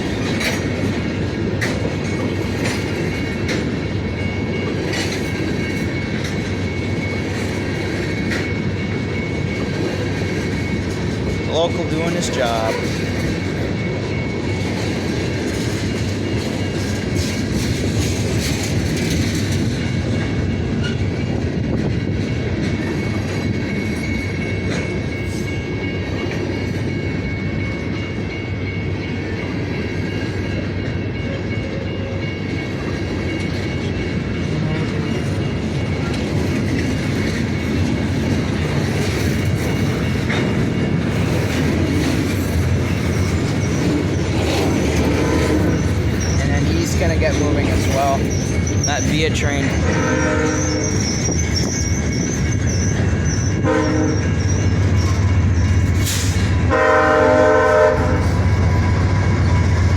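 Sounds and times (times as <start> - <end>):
train wheels clicking on rails: 0.0 - 59.9.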